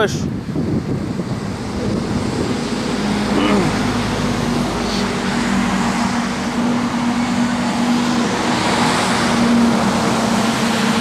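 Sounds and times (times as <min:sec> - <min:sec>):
road traffic noise: 0:00.0 - 0:11.0
low engine hum: 0:00.2 - 0:11.0.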